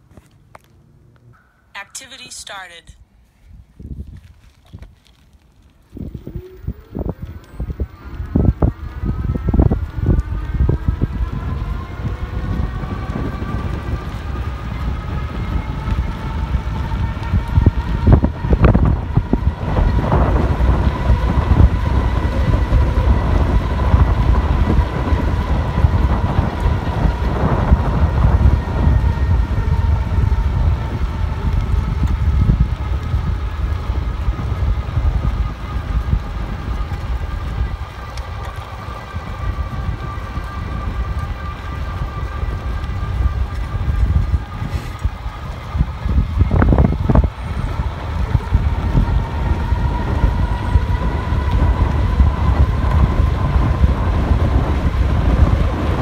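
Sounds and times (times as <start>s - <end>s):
road noise: 0.0s - 56.0s
wind rumble on microphone: 3.2s - 56.0s.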